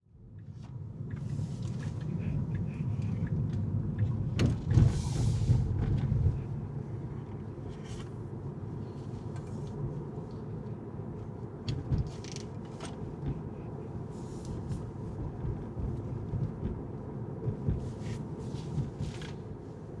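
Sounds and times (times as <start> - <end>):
car driving rumble: 0.2 - 20.0.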